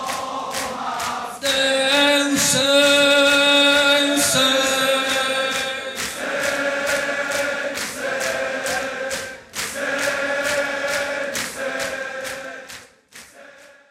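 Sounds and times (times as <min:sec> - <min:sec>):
crowd of men chanting: 0:00.0 - 0:13.9
rhythmic chest-beating slaps: 0:00.0 - 0:13.9.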